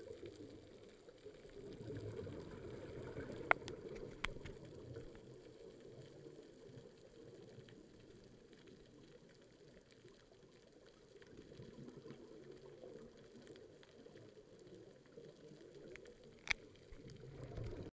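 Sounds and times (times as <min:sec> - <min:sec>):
muffled underwater bubbling: 0:00.0 - 0:17.9.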